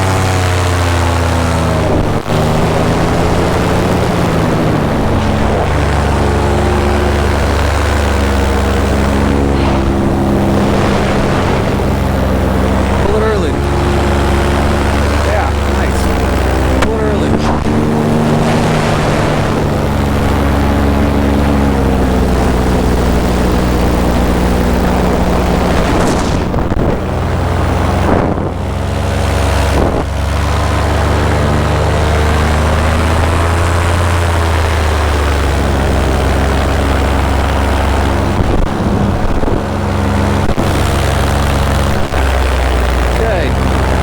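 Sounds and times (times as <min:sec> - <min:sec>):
wind on microphone: 0:00.0 - 0:31.8, 0:35.6 - 0:44.0
paramotor engine and propeller: 0:00.0 - 0:44.0.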